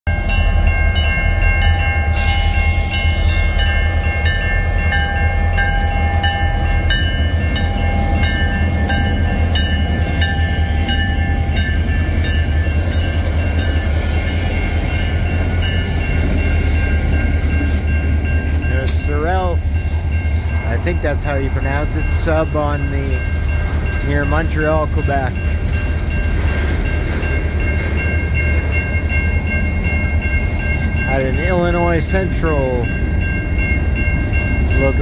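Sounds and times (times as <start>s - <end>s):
diesel train rumble: 0.1s - 35.0s
steady high tones: 0.2s - 35.0s.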